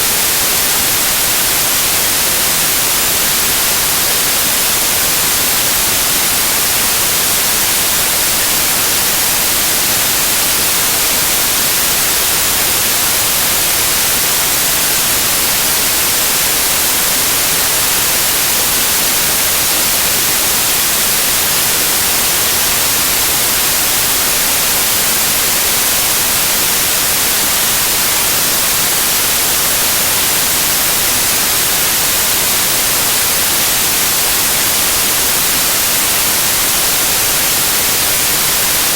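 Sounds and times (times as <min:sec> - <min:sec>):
steady white noise hiss: 0:00.0 - 0:38.9.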